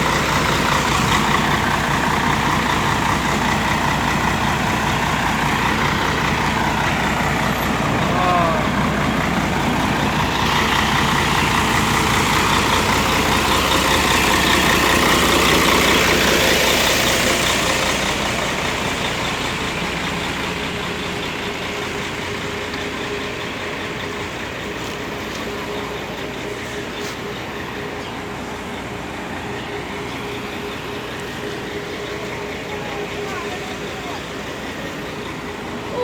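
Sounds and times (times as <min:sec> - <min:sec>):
coach diesel engine running: 0:00.0 - 0:36.0.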